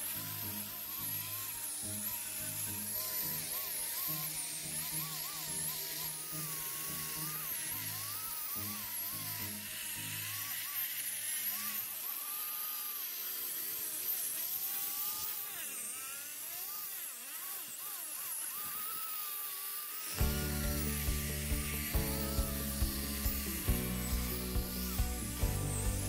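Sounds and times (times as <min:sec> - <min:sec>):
angle grinder wire brushing metal: 0:00.0 - 0:26.0.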